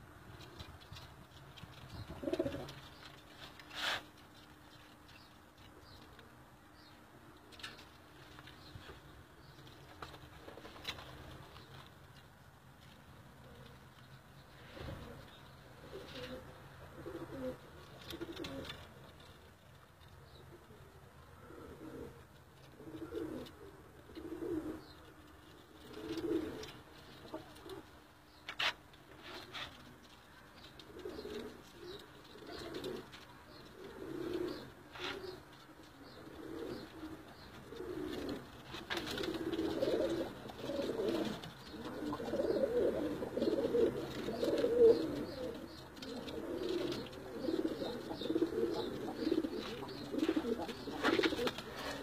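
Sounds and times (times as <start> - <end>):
pigeons cooing: 0.4 - 6.0, 13.3 - 19.1, 20.3 - 52.0.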